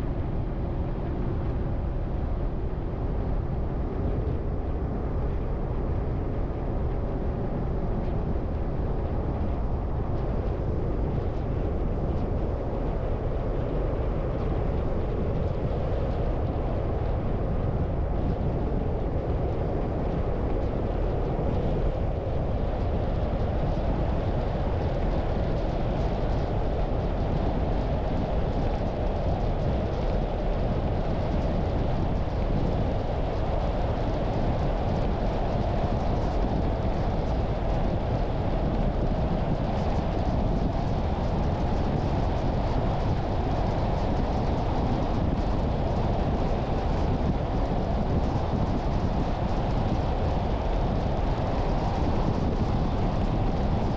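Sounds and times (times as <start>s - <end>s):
wind noise: 0.0s - 53.9s.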